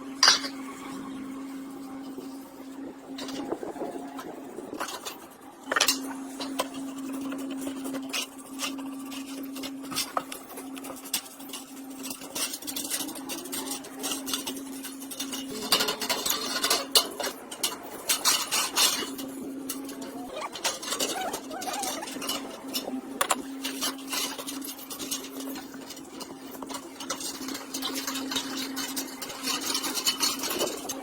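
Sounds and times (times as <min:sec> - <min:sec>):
metal tools clinking and scraping: 0:00.2 - 0:00.7, 0:03.2 - 0:31.0.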